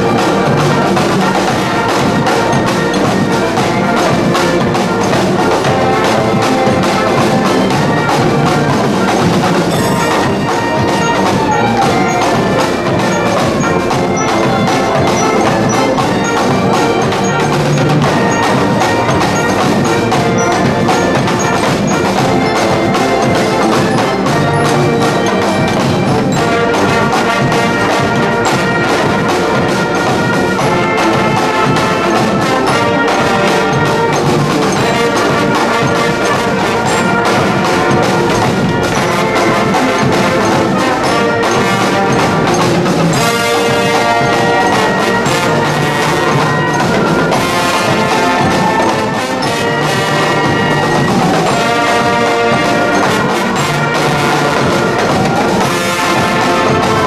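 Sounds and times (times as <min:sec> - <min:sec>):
brass band playing: 0:00.0 - 0:57.0
snare drums: 0:00.0 - 0:57.0.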